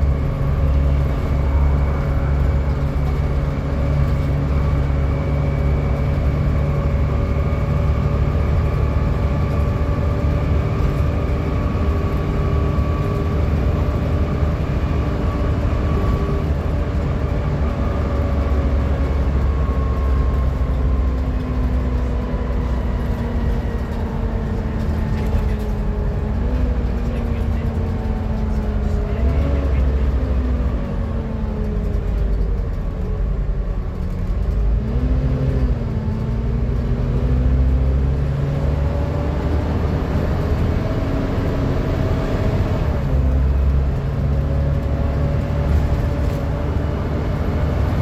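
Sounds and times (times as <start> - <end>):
bus engine drone: 0.0 - 48.0.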